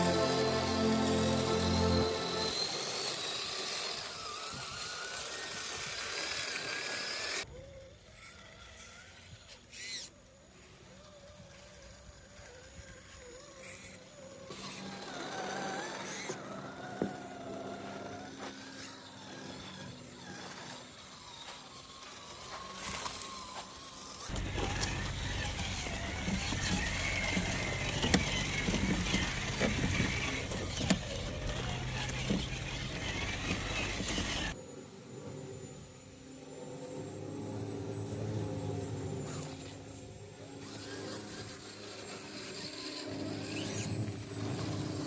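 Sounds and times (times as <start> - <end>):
tires working over ground: 0.0 - 7.5, 10.4 - 34.6, 35.8 - 45.0
electric motor of toy truck: 0.0 - 45.0.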